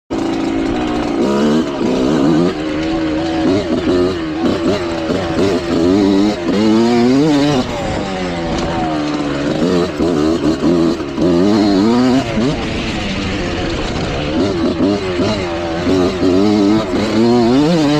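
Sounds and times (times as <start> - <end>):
dirt bike engine revving: 0.1 - 17.9.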